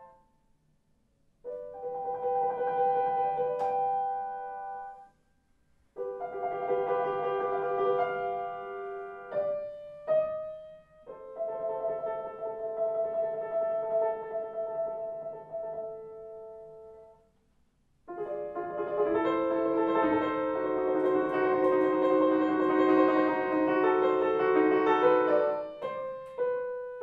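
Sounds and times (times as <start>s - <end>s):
slow classical piano chords: 1.4s - 5.2s, 6.0s - 17.3s, 18.1s - 27.0s.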